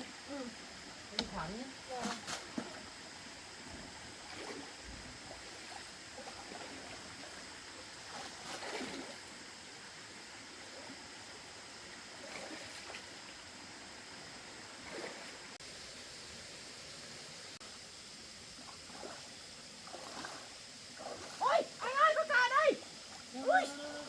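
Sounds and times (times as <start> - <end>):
water splashes: 0.0 - 15.7, 18.4 - 24.0
water flowing: 0.0 - 24.0.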